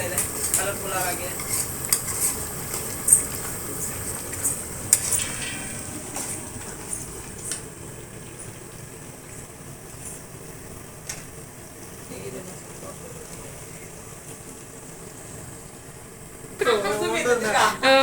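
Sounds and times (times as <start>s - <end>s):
curry simmering and bubbling: 0.0s - 16.6s.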